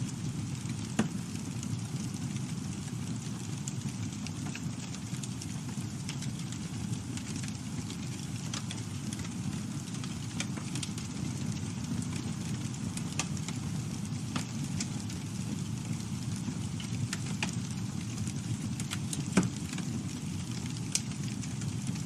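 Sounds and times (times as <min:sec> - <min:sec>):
campfire crackling and popping: 0:00.0 - 0:22.0
low rumble of flame: 0:00.0 - 0:22.0.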